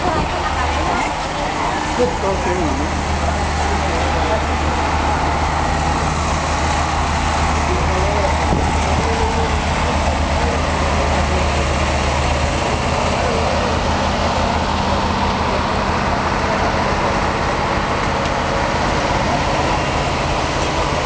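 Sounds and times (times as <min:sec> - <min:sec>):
diesel train idling hum: 0:00.0 - 0:21.0.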